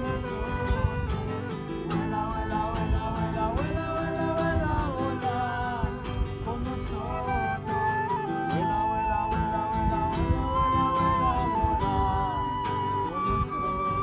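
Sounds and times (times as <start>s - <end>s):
person singing: 0.0s - 14.0s
plucked acoustic guitar: 0.0s - 14.0s.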